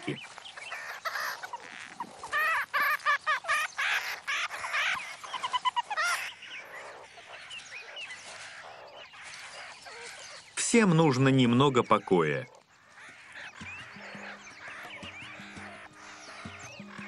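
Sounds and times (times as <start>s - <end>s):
short chirping animal calls: 0.0s - 17.0s.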